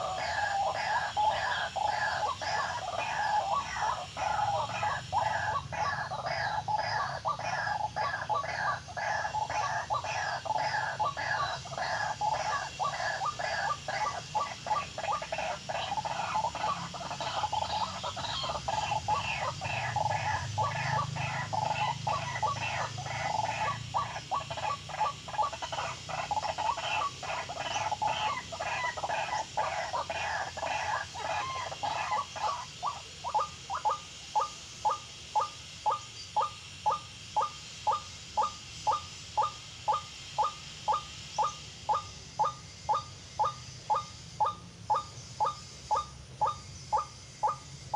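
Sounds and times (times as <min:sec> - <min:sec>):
waterhen calling: 0:00.0 - 0:47.6.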